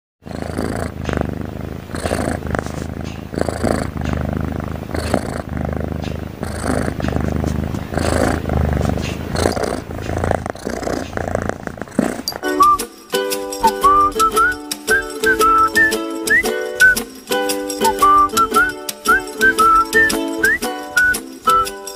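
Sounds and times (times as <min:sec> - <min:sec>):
cat purring loudly: 0:00.2 - 0:12.8, 0:13.7 - 0:17.0, 0:17.7 - 0:21.1.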